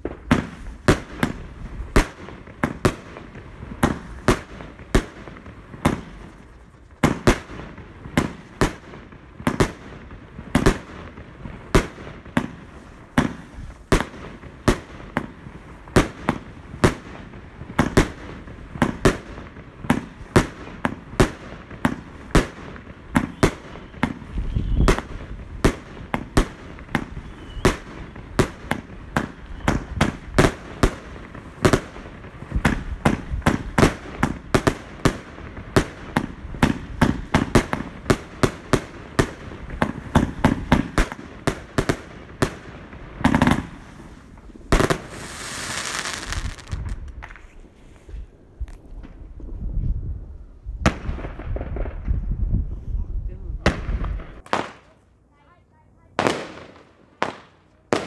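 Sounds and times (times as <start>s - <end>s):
firework bangs: 0.0s - 49.6s, 50.8s - 52.4s, 53.5s - 55.0s, 56.2s - 58.0s.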